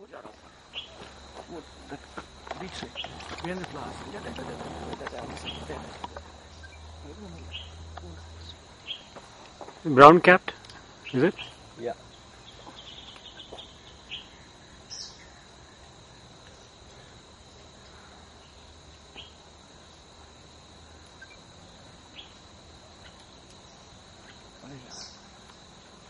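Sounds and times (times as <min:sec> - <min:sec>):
faint chirps: 0:00.0 - 0:09.2, 0:09.9 - 0:25.8
high-pitched insect drone: 0:00.0 - 0:26.0.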